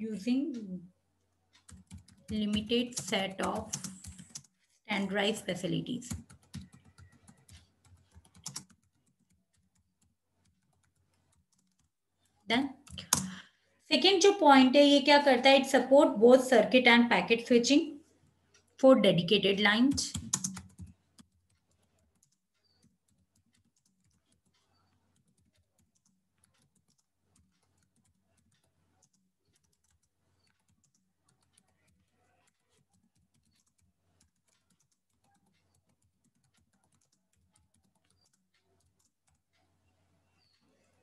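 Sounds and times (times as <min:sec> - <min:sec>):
keyboard typing: 0:01.5 - 0:13.5, 0:18.5 - 0:41.0.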